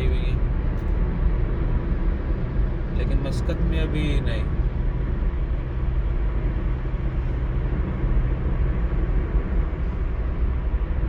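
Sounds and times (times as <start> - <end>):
vehicle and road rumble: 0.0 - 11.0.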